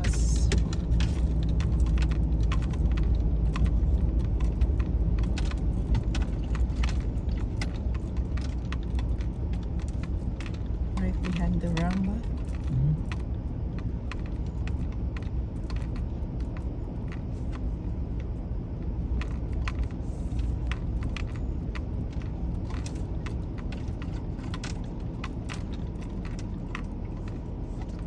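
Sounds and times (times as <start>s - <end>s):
light clicks and rattles: 0.0s - 28.0s
truck engine rumbling: 0.0s - 28.0s.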